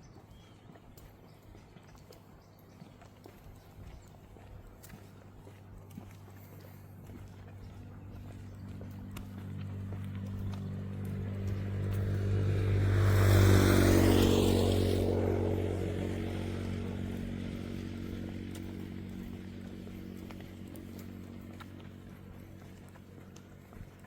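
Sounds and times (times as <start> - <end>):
motor vehicle passing by: 0.0 - 24.0.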